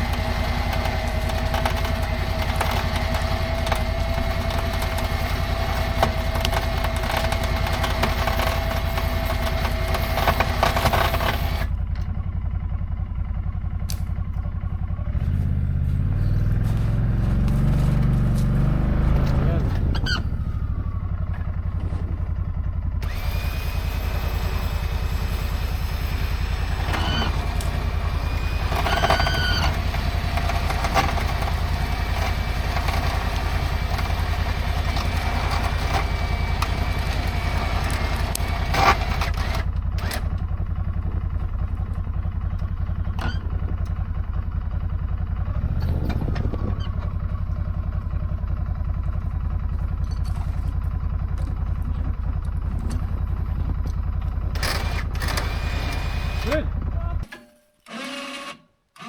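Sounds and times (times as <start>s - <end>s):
vehicle engine running: 0.0s - 57.3s.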